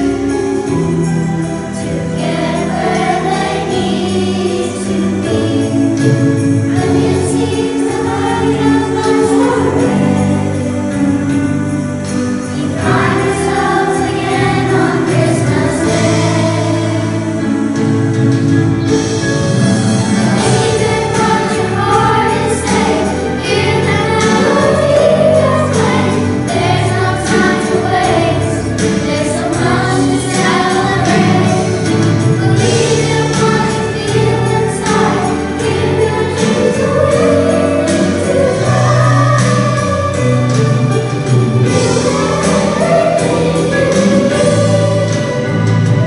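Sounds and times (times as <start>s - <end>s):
children's choir singing: 0.0s - 46.0s.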